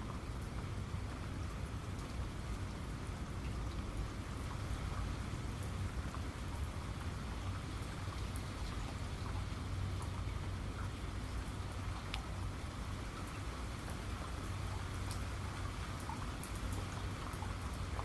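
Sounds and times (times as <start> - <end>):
steady rainfall: 0.0 - 18.0
raindrops ticking: 3.2 - 18.0.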